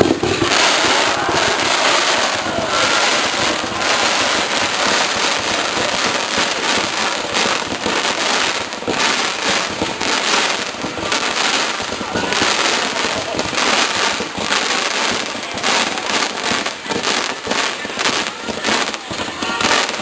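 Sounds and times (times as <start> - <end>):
fireworks crackling and popping: 0.0 - 20.0
heavy firework bangs: 0.0 - 20.0.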